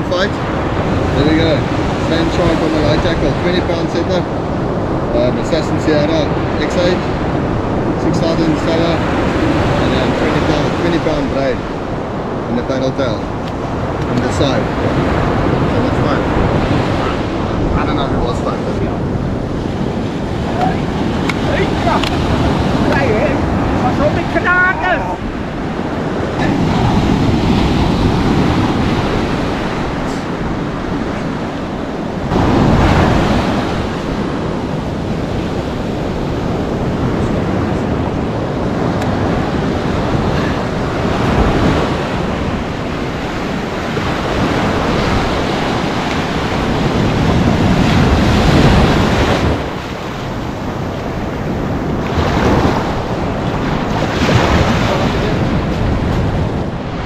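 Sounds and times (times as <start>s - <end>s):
ocean surf washing onto shore: 0.0s - 57.0s
waves breaking: 0.0s - 57.0s
wind on microphone: 0.0s - 57.0s.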